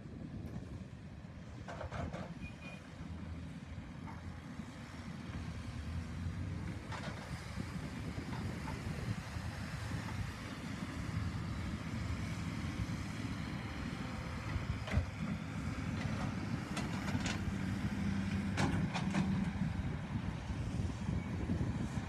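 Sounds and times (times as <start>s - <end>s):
distant diesel engines rumbling: 0.1s - 22.0s.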